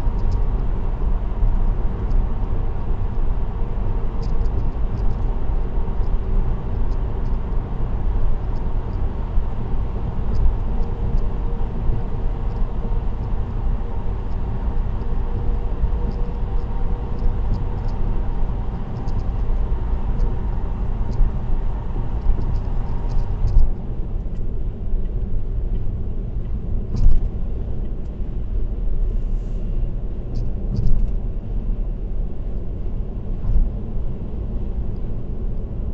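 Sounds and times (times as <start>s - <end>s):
car road and tyre noise: 0.0s - 35.9s.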